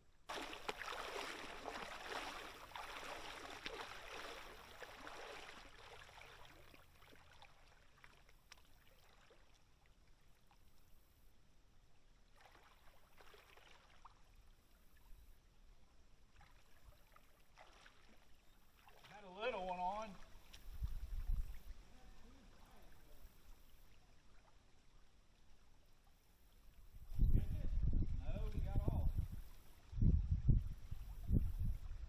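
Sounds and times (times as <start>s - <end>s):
faint flowing creek water: 0.0s - 32.0s.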